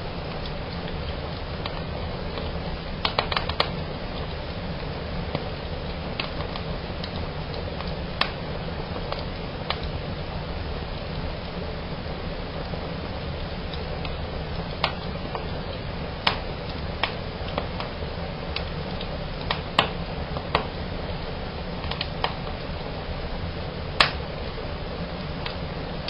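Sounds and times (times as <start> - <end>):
fire flames rushing: 0.0 - 26.0
fire snaps and pops: 0.0 - 26.0.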